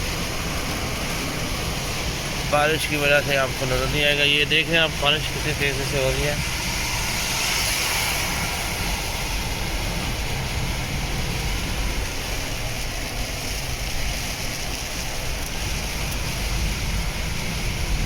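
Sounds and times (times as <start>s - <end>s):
engine and road noise: 0.0s - 18.0s
heavy rain on a car: 0.0s - 18.0s.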